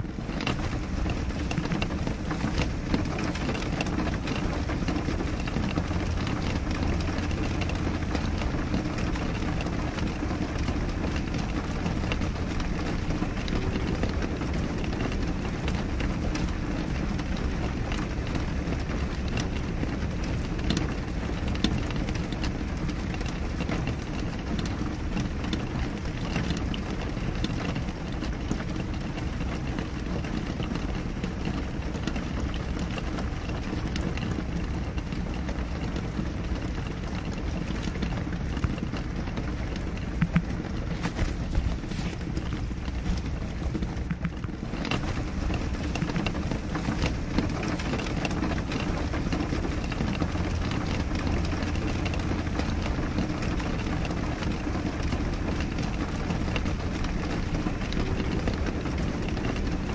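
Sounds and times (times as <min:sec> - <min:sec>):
rain on window pane: 0:00.0 - 0:59.9.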